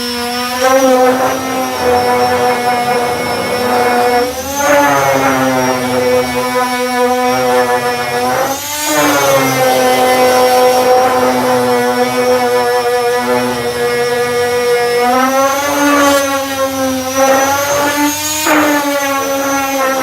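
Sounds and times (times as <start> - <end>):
electric sander whining: 0.0 - 20.0.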